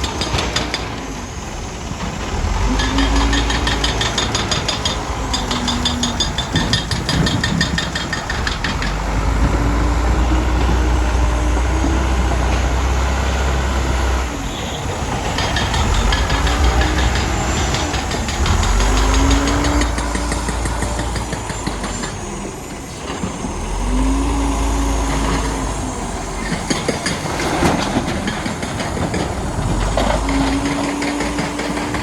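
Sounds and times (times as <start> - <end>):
rapid metallic clatter: 0.0 - 10.0, 14.2 - 32.0
diesel engine rumbling: 0.0 - 32.0.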